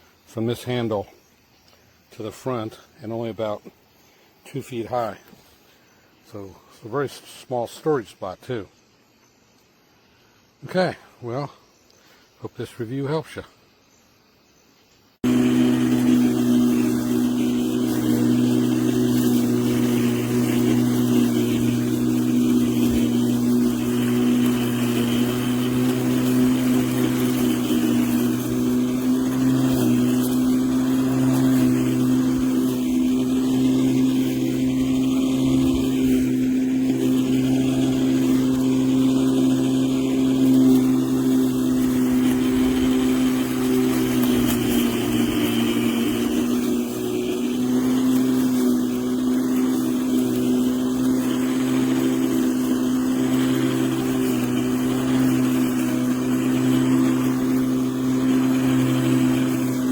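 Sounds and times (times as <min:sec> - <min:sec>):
lawn mower humming: 0:00.0 - 0:08.6, 0:10.6 - 0:13.8, 0:15.1 - 0:59.9.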